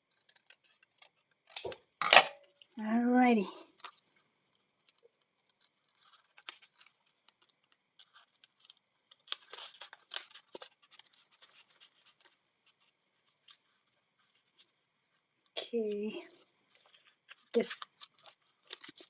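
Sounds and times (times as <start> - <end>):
paper rustling and scratching: 0.0 - 1.9, 3.3 - 19.0.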